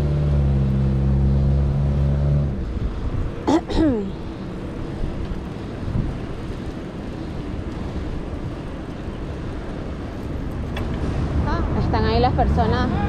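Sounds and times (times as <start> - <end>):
street traffic: 0.0 - 13.0
wind rumble: 0.0 - 13.0.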